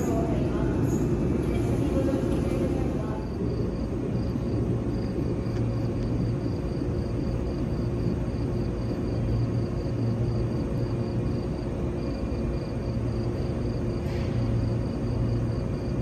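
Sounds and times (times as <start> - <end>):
train electrical hum: 0.0 - 16.0.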